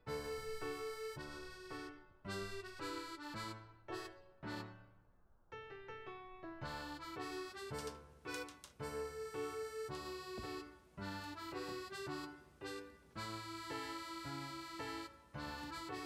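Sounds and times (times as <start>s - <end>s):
light instrumental music: 0.0s - 4.9s, 6.5s - 16.0s.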